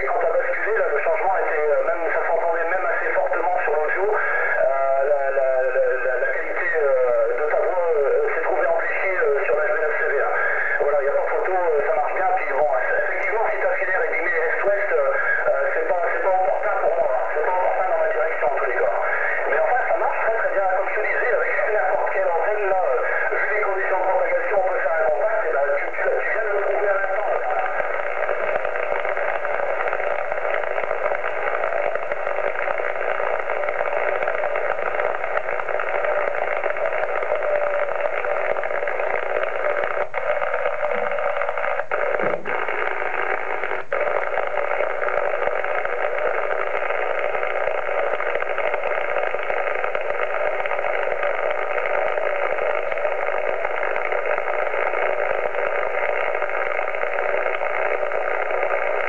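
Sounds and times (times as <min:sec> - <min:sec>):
radio band noise hiss: 0:00.0 - 0:59.0.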